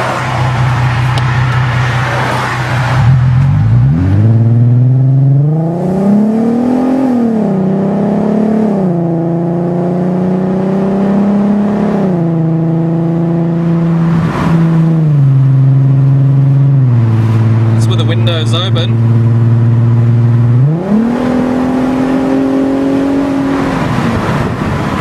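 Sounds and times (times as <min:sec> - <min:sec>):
car engine accelerating and cruising: 0:00.0 - 0:25.0.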